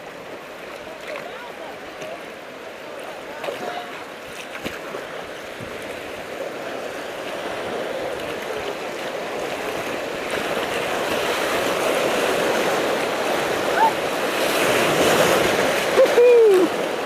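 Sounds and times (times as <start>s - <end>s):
rushing river water: 0.0s - 17.0s.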